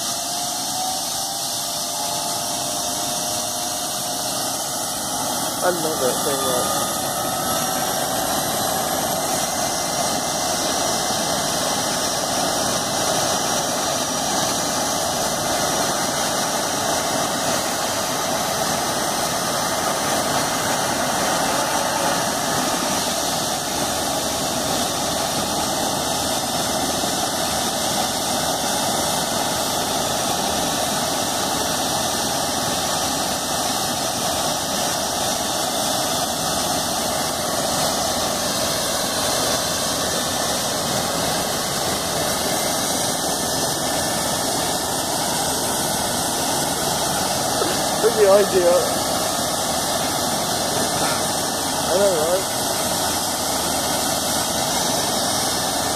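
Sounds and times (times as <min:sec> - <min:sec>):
helicopter turbine whine: 0:00.0 - 0:55.9
rotor rushing: 0:00.0 - 0:55.9.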